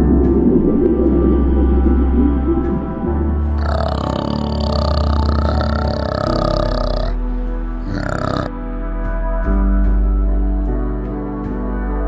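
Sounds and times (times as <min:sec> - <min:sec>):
low steady drone: 0:00.0 - 0:10.1
ambient background music: 0:00.0 - 0:12.0.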